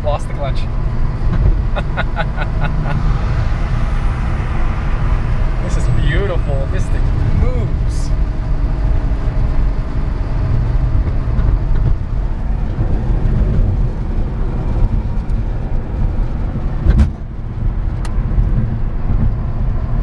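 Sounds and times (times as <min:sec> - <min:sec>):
tyre and wind noise: 0:02.5 - 0:20.0.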